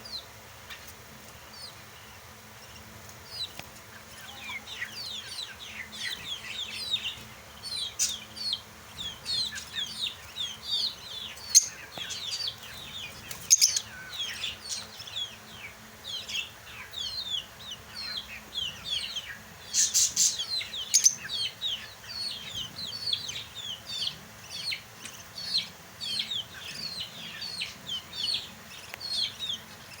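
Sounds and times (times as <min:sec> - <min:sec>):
flock of lovebirds chirping: 0:02.7 - 0:30.0.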